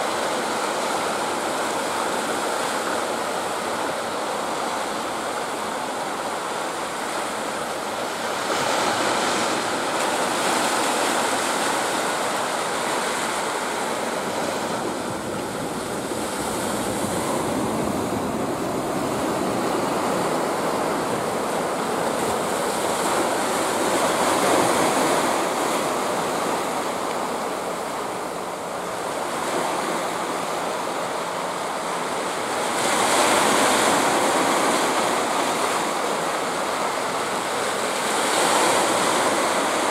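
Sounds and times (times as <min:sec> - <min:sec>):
sea waves breaking on rocks: 0:00.0 - 0:39.9.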